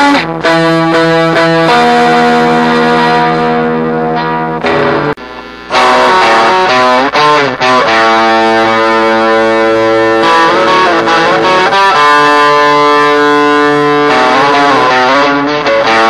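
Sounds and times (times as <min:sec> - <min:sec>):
electric guitar chords ringing: 0:00.0 - 0:16.0.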